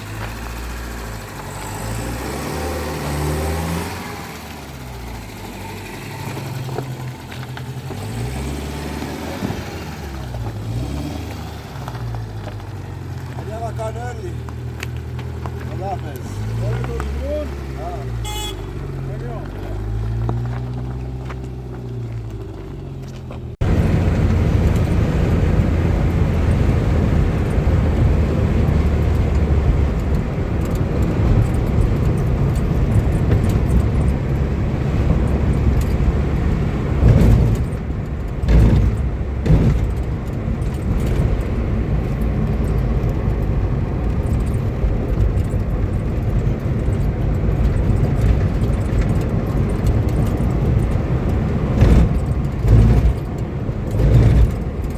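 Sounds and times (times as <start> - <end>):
steady road rumble: 0.0 - 54.9.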